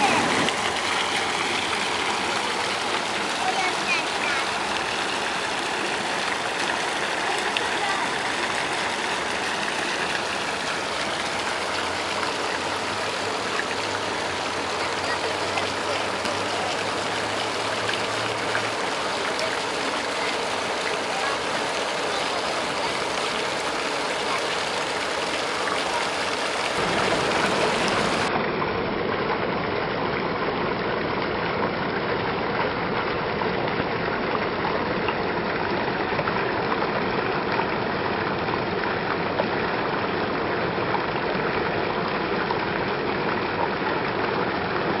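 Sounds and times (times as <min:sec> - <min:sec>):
fountain water splashing: 0:00.0 - 0:45.0.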